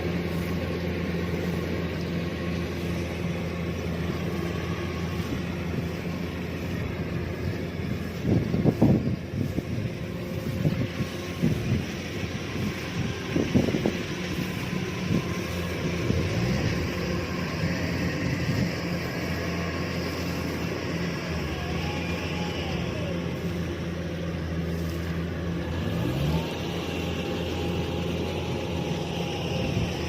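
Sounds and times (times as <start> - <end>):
combine harvester engine drone: 0.0 - 30.0
threshing machinery hiss: 0.0 - 30.0.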